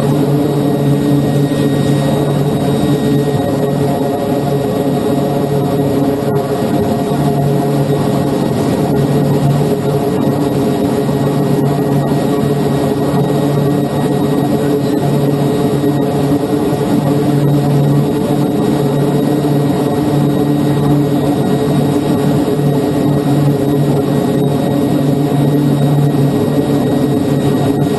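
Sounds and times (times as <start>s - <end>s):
turboprop engines droning: 0.0s - 27.9s.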